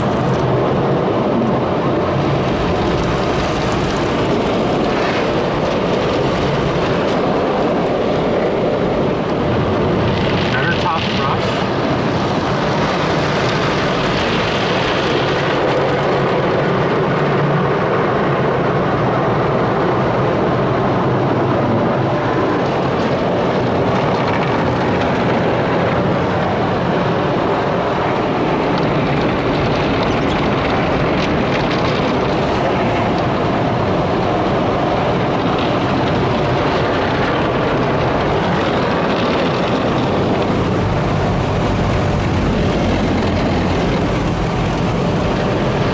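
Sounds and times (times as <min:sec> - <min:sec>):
car wash equipment rushing: 0:00.0 - 0:45.9.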